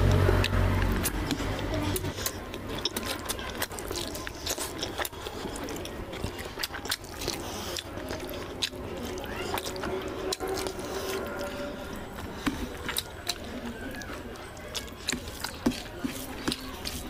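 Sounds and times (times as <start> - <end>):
wet chewing and lip-smacking: 0.0 - 17.0.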